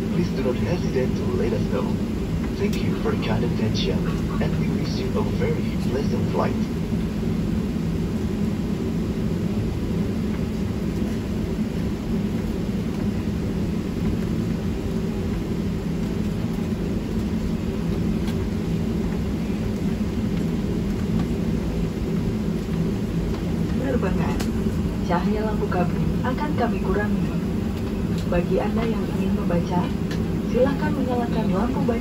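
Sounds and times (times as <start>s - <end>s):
airliner cabin rumble and hum: 0.0s - 32.0s.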